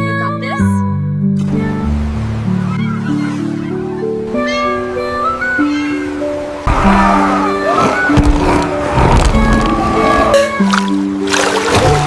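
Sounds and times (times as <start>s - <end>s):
music with held notes: 0.0s - 12.0s.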